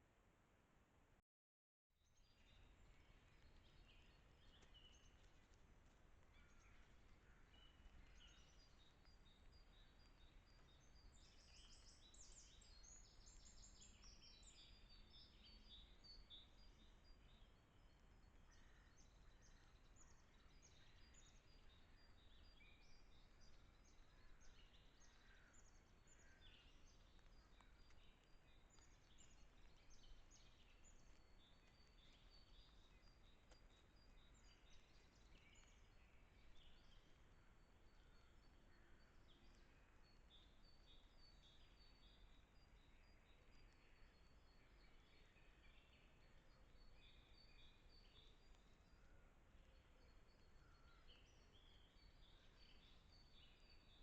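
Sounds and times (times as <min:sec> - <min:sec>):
songbirds chirping: 0:02.0 - 0:54.0.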